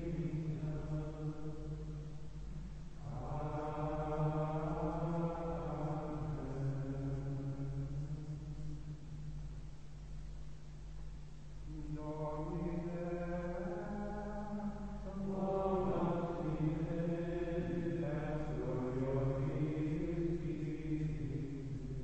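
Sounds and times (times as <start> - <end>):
male voices chanting in unison: 0.0 - 2.0, 3.0 - 8.5, 11.7 - 22.0.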